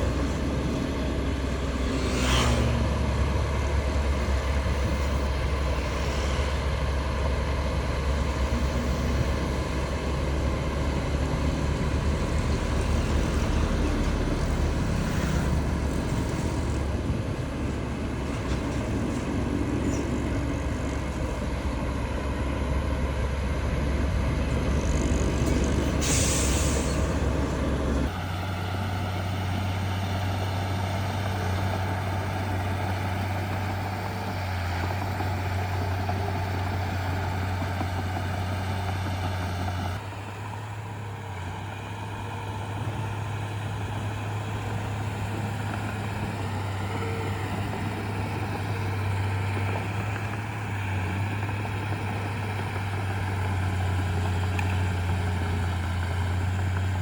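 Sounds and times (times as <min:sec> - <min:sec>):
heavy diesel machinery engines: 0:00.0 - 0:57.0.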